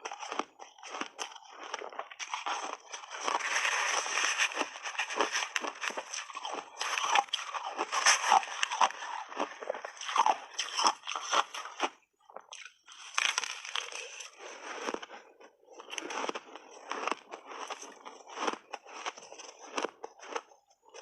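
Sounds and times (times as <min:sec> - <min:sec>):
ice crunching while chewed: 0:00.0 - 0:21.0.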